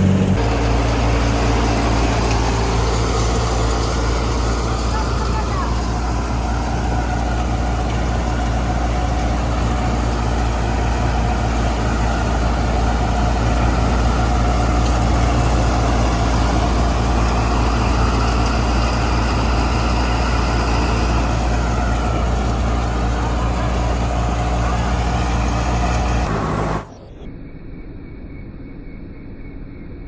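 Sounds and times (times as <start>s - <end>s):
combine harvester droning: 0.0s - 27.2s.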